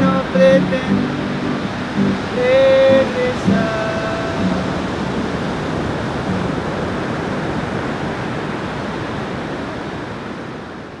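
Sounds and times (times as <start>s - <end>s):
ocean surf: 0.0s - 11.0s.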